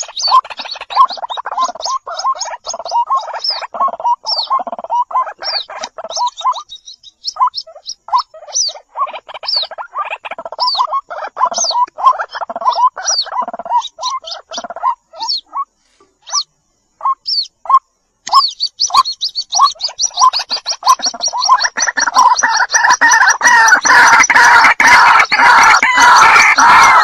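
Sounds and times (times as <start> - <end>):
chicks peeping: 0.0 - 27.0.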